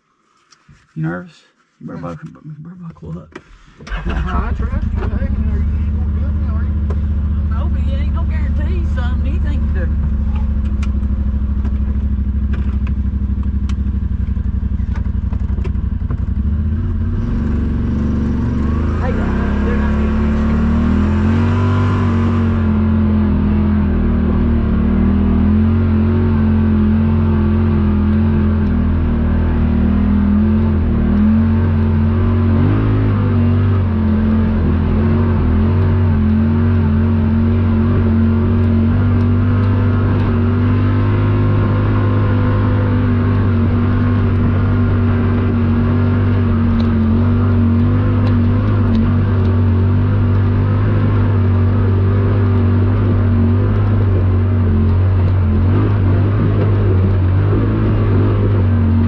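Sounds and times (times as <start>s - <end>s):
vehicle engine under load: 3.4s - 59.0s.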